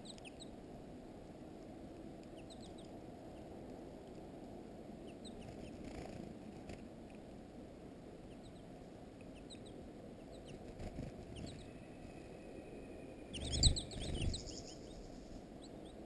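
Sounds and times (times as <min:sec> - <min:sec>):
songbirds chirping: 0:00.0 - 0:06.2, 0:07.0 - 0:16.0
low background rumble: 0:00.0 - 0:16.0.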